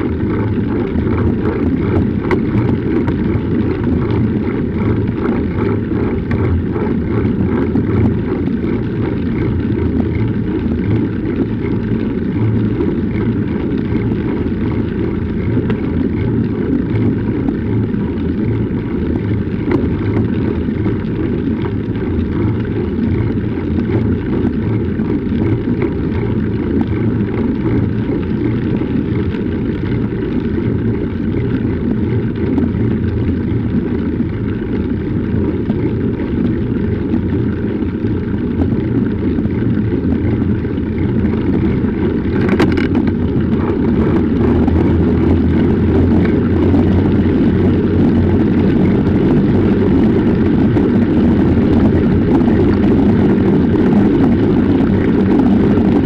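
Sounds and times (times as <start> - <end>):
bike tyres rolling on pavement: 0.0 - 56.0
wind buffeting microphone: 0.0 - 56.0.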